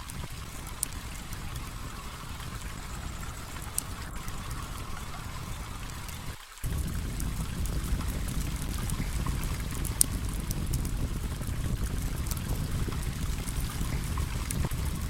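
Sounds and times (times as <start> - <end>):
campfire crackling and popping: 0.0 - 15.0
flowing water rushing: 0.0 - 15.0.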